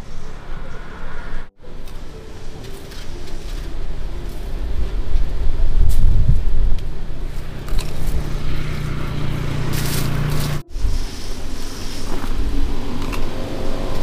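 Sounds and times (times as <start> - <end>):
rumbling noise: 0.0 - 14.0
engine running: 0.3 - 14.0.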